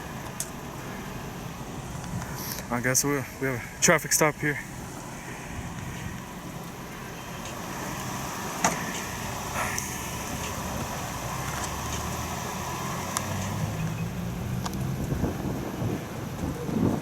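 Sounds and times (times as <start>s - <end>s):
motor vehicle running: 0.0s - 17.0s.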